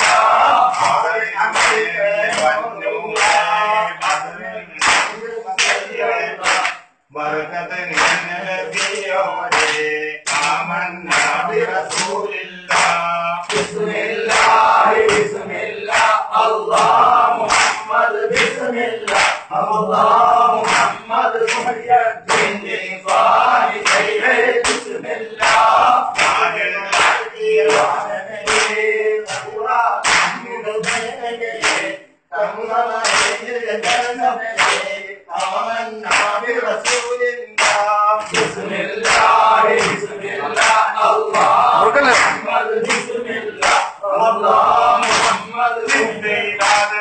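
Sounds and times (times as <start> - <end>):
men chanting together: 0.0 - 47.0.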